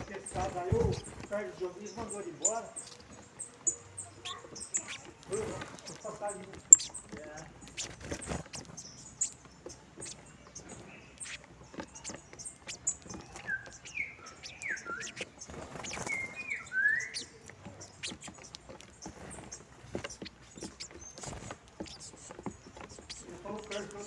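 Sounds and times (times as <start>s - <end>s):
finches chirping: 0.0s - 24.0s.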